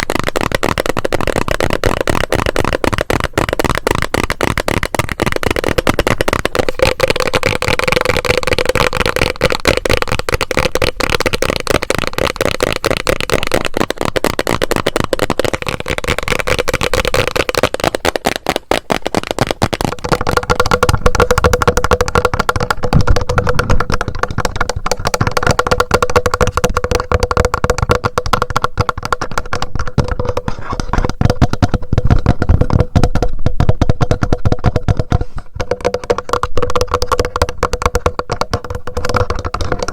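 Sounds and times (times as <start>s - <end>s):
tapping on handheld recorder: 0.0s - 39.9s
tapping on plastic bottle: 0.0s - 39.9s.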